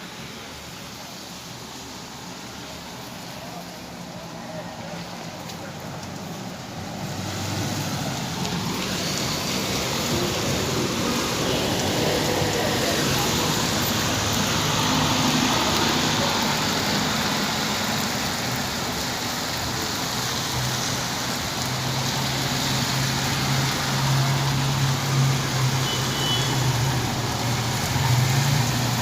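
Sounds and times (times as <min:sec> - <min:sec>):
steady rain hissing: 0:00.0 - 0:29.0.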